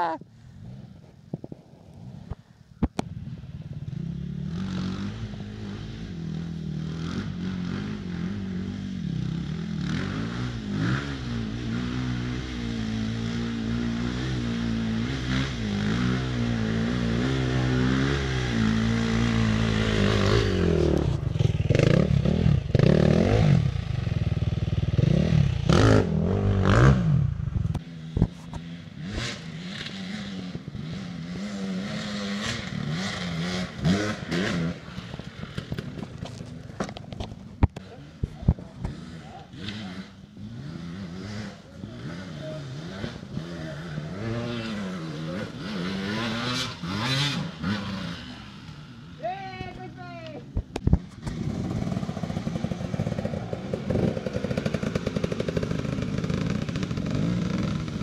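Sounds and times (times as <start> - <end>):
dirt bike engine revving: 3.2 - 58.0.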